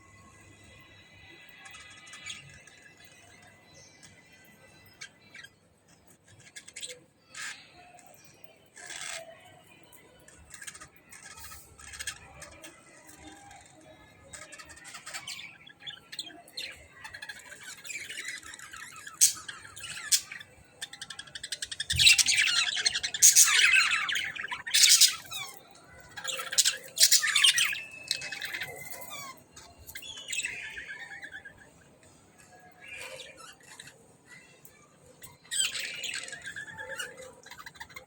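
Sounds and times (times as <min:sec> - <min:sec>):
budgerigars chirping and squawking: 0:00.6 - 0:09.5, 0:10.3 - 0:38.0.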